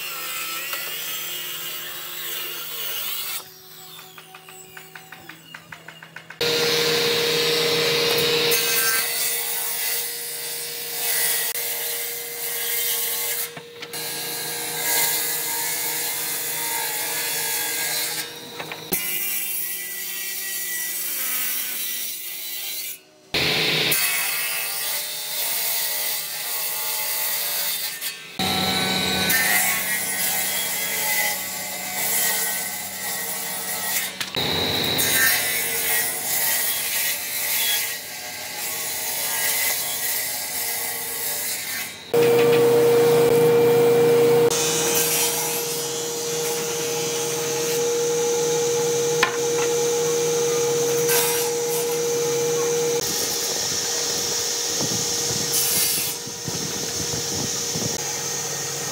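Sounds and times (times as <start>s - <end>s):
table saw ripping wood: 6.4s - 19.8s, 23.4s - 58.9s.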